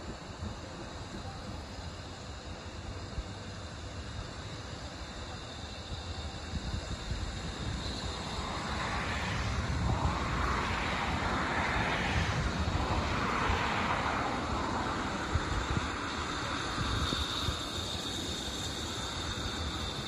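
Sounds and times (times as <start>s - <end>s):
exhaust hiss: 0.0s - 20.0s
steam locomotive rushing steam: 0.0s - 20.0s.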